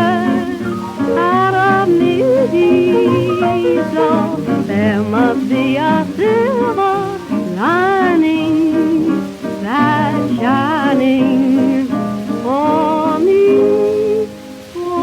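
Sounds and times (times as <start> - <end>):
jazz band music: 0.0 - 15.0
record surface noise: 0.0 - 15.0.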